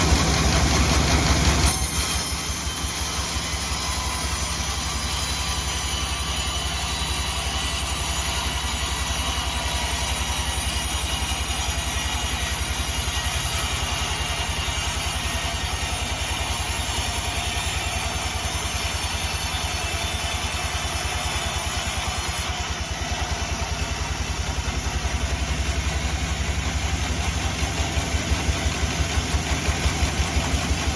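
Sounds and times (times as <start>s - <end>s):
sawmill engine chugging: 0.0s - 30.9s.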